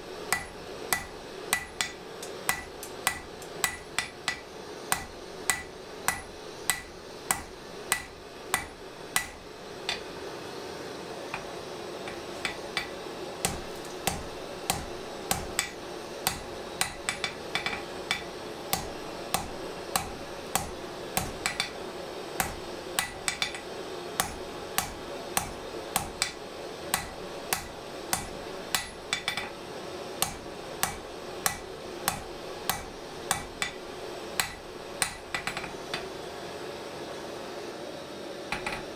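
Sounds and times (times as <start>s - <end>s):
hammer striking steel on anvil: 0.3s - 10.1s, 12.1s - 21.8s, 22.4s - 29.6s, 30.2s - 36.1s.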